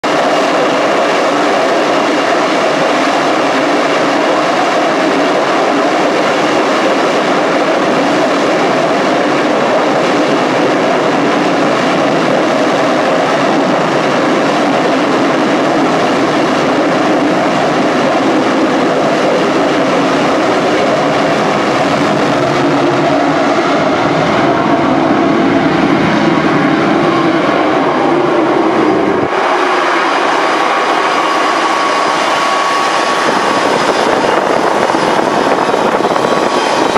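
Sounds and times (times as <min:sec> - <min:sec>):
loud jet engine noise: 0:00.0 - 0:36.9.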